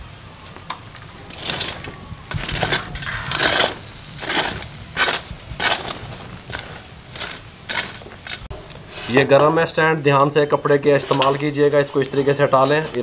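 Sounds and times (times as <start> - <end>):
wire grill basket scraping: 0.4 - 13.0.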